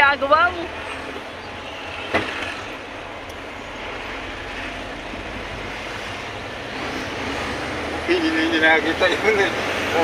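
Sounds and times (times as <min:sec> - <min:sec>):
truck running on road: 0:00.0 - 0:10.0.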